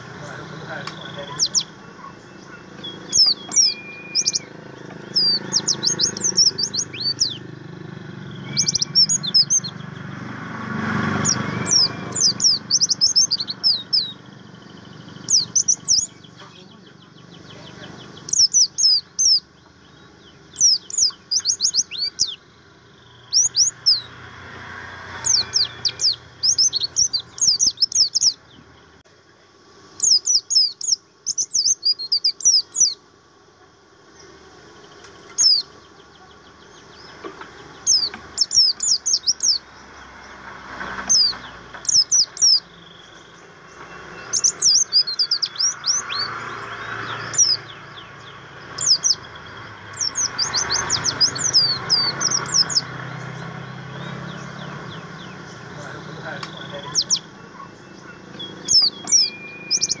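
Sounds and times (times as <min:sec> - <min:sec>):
bird singing high chirps: 0:00.0 - 0:29.0, 0:29.9 - 0:33.0, 0:34.1 - 1:00.0.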